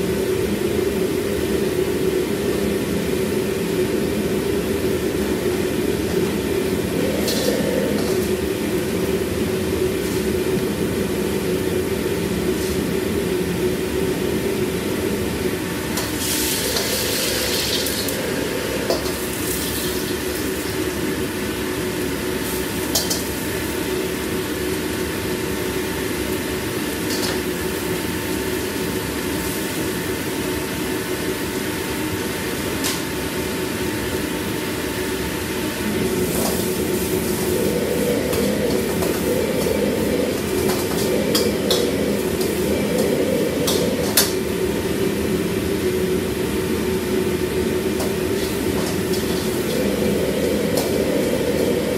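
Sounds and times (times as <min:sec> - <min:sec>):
gas burners and extraction roar: 0:00.0 - 0:51.9.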